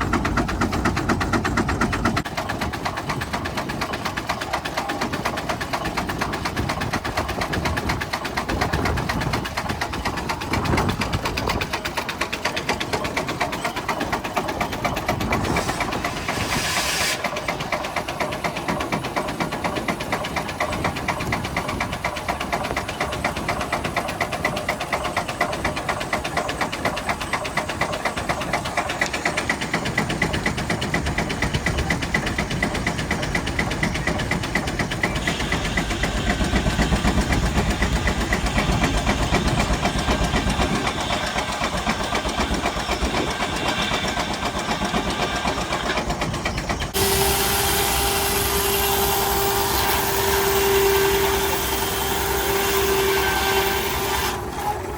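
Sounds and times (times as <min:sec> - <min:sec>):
steam engine exhaust chuffing: 0:00.0 - 0:54.9.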